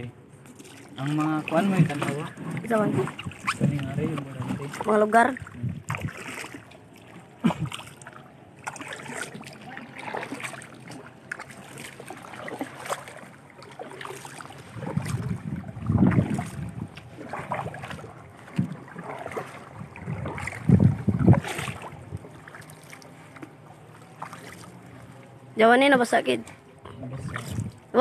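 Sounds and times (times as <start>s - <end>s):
paddle splashing in water: 0.5s - 25.4s, 27.2s - 27.9s.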